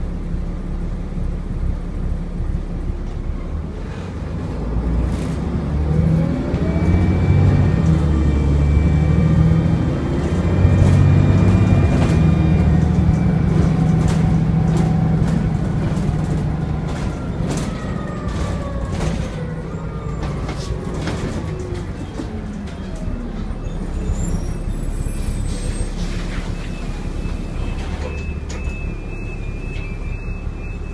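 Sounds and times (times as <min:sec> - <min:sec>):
bus diesel engine accelerating: 0:00.0 - 0:30.9.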